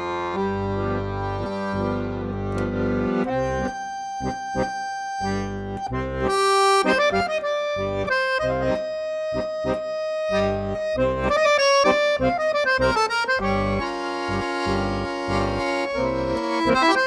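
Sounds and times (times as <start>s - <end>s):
accordion melody: 0.0s - 17.0s
held bass chords: 0.0s - 17.0s.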